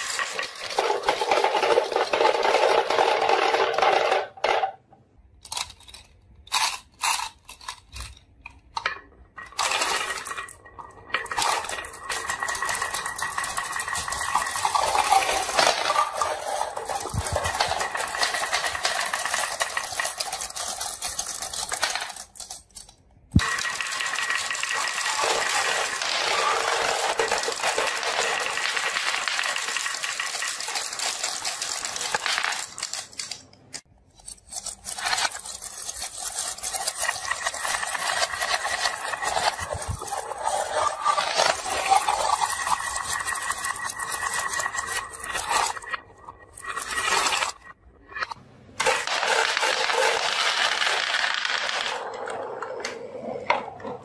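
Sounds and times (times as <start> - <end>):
marbles rattling down wooden track: 0.0 - 4.8, 8.8 - 33.9, 34.5 - 54.0.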